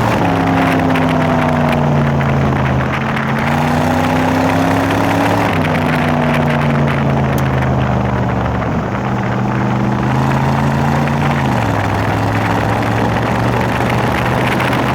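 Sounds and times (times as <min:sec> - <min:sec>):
truck engine exhaust rumble: 0:00.0 - 0:14.9.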